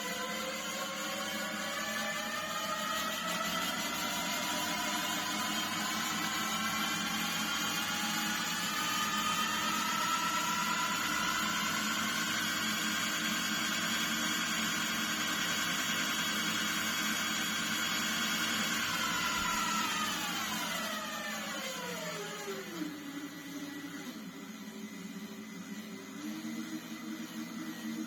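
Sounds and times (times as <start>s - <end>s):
machine tool motor whine: 0.0s - 28.0s.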